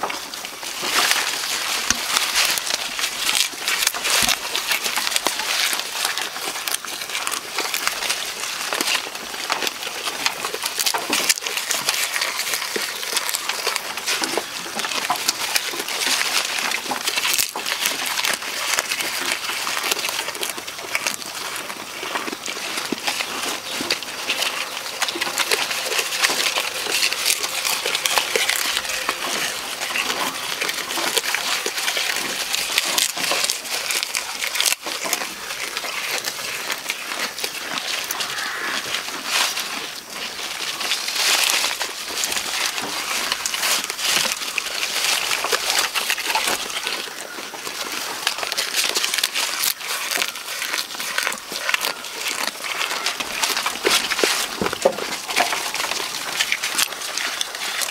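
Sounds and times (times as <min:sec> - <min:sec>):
goats chewing leaves: 0:00.0 - 0:57.9.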